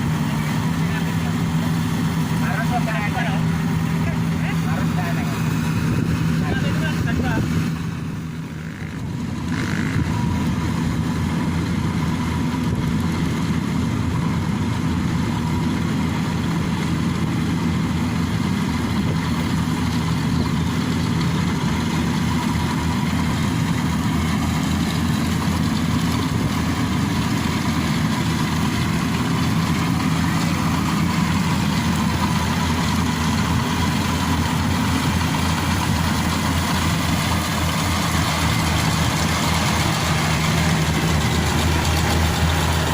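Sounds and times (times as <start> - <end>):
combine harvester engine drone: 0.0 - 42.9.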